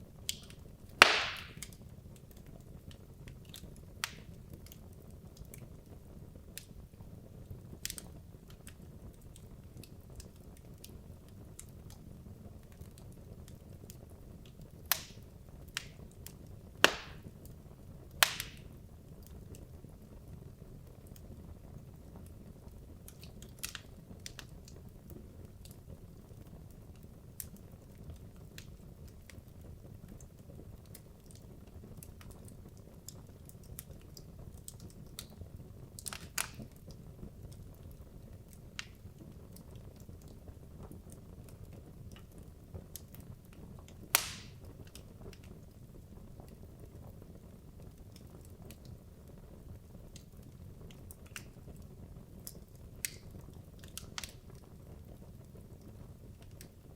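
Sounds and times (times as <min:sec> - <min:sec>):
wood fire crackling: 0:00.0 - 0:56.9
burning log pops: 0:00.2 - 0:06.7, 0:07.8 - 0:19.8, 0:20.8 - 0:45.8, 0:46.4 - 0:56.9.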